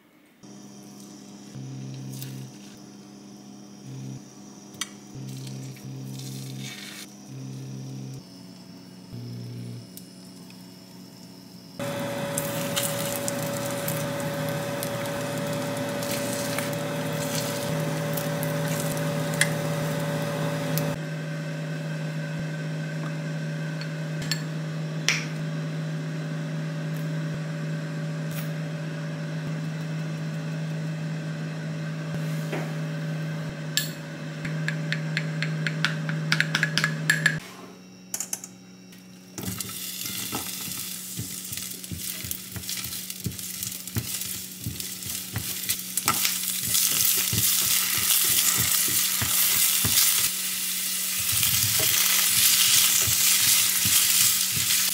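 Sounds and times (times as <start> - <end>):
steady mechanical hum: 0.0 - 54.9.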